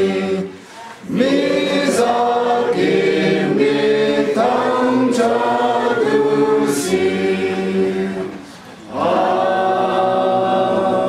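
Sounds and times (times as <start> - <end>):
group singing held notes: 0.0 - 11.0.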